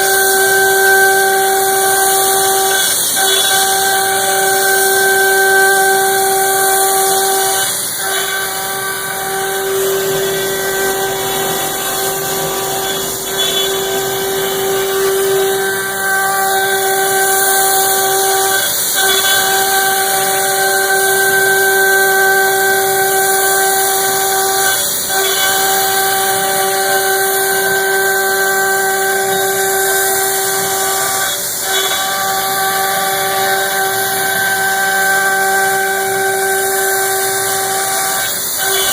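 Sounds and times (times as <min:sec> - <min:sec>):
cnc router high-pitched whine: 0:00.0 - 0:38.9.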